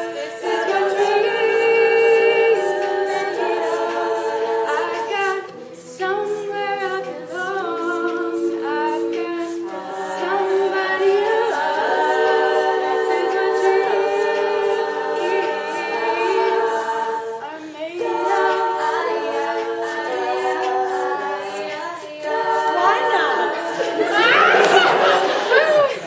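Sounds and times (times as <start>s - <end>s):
a cappella group singing: 0.0s - 26.0s.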